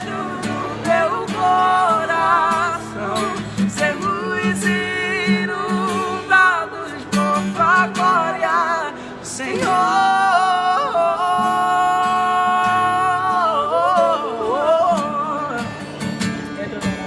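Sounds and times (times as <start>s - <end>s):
acoustic guitar accompaniment: 0.0s - 17.0s.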